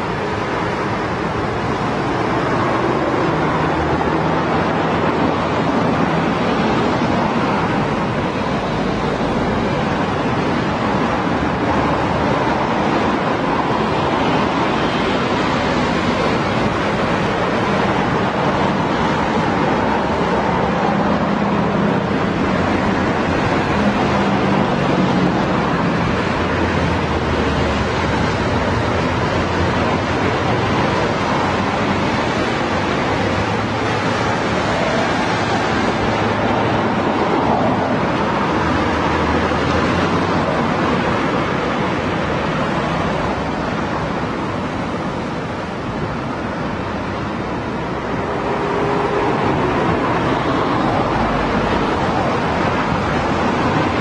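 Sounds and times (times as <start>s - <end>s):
passing road traffic: 0.0s - 54.0s.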